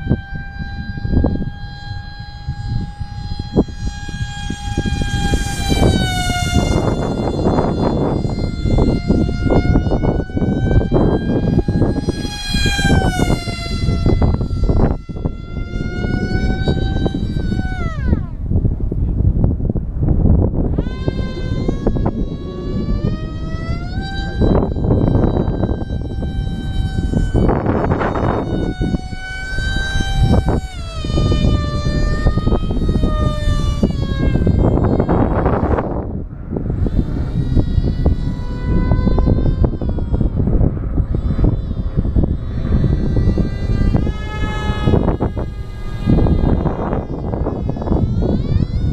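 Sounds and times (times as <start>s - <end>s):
drone motors whining: 0.0s - 48.9s
gusty wind rush: 0.0s - 48.9s.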